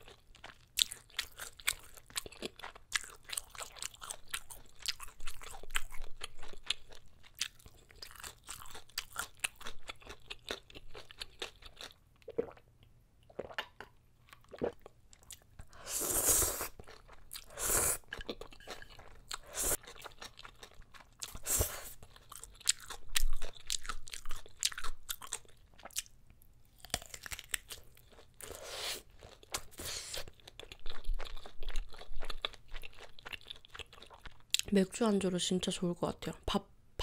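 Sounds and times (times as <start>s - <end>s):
crunchy wet chewing: 0.0s - 12.6s, 16.4s - 34.7s.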